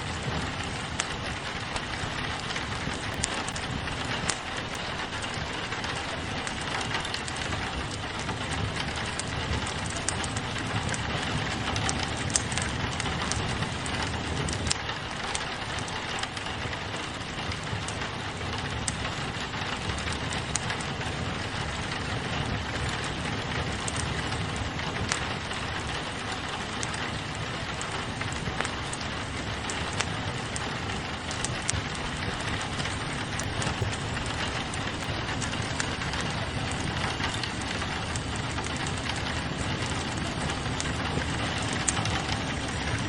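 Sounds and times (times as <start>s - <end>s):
rain on a window: 0.0s - 43.0s
wood fire crackling: 0.0s - 43.0s.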